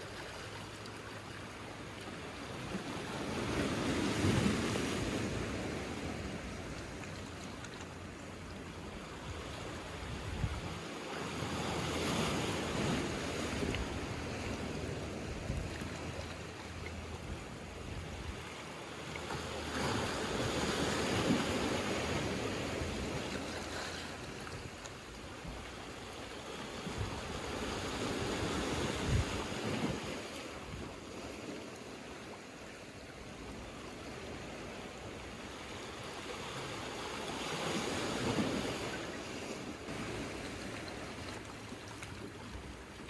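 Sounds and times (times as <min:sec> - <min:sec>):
small waves breaking on rocks: 0:00.0 - 0:43.0.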